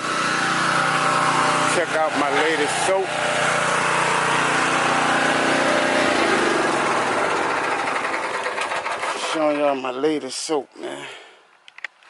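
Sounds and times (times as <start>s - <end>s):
pressure washer motor hum: 0.0s - 9.8s.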